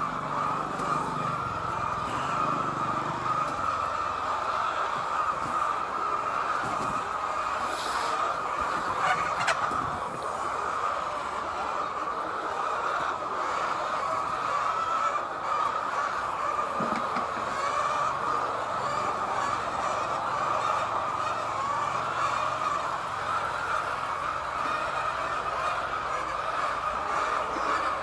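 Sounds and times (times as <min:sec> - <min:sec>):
hens clucking: 0:00.0 - 0:28.0.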